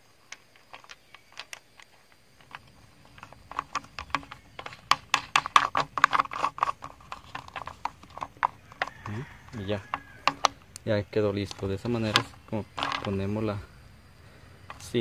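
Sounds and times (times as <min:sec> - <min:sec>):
plastic knob clicking: 0:00.3 - 0:10.8, 0:11.5 - 0:13.2.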